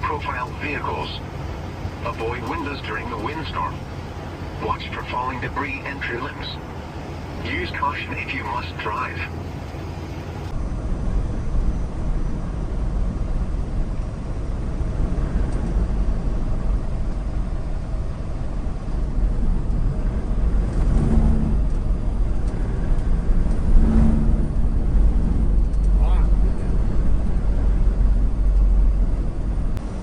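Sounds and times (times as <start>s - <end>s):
road and wind noise: 0.0s - 30.0s
truck engine rumble: 0.0s - 30.0s.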